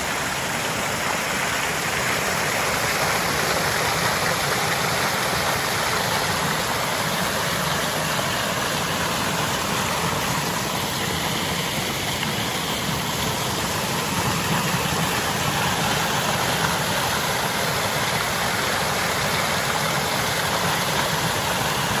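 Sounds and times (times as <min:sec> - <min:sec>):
waterfall splashing into pool: 0:00.0 - 0:22.0.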